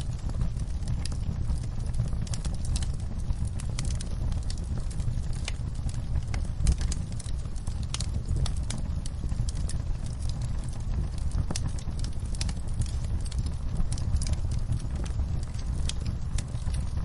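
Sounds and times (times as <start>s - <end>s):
low roar of flames: 0.0s - 17.0s
wood fire crackling and popping: 0.0s - 17.0s.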